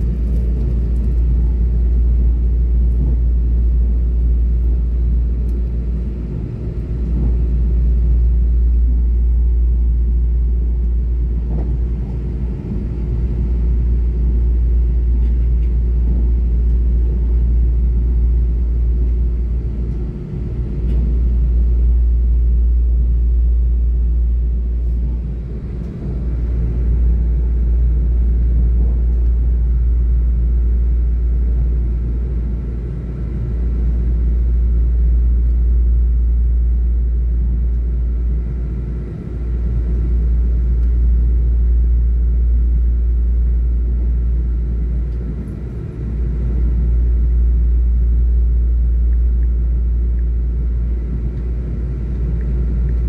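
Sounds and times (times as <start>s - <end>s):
train rumble from inside carriage: 0.0s - 53.0s.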